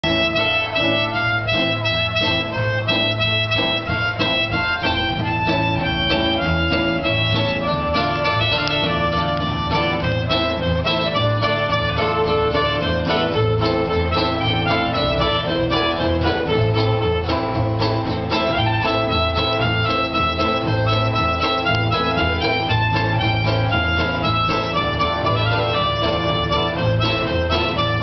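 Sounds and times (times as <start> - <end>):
acoustic jazz band playing: 0.0 - 28.0.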